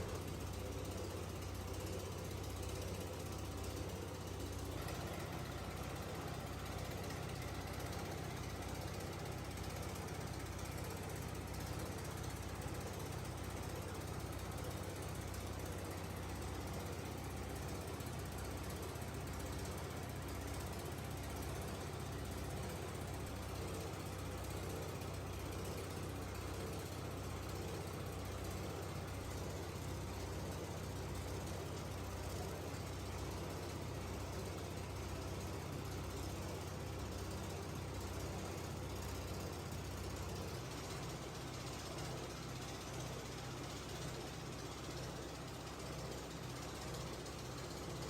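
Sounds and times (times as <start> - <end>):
factory machinery humming and rattling: 0.0 - 48.0.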